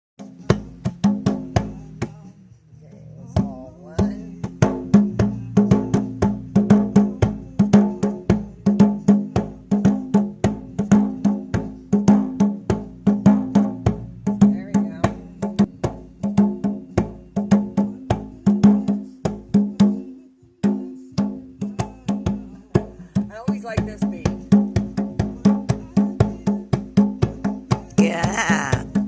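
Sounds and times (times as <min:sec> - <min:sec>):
hand drum beating: 0:00.2 - 0:02.2, 0:03.3 - 0:29.0.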